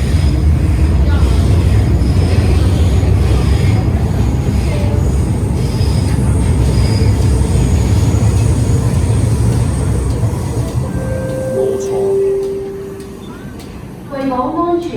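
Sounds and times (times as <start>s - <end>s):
train rumbling through station: 0.0s - 14.9s.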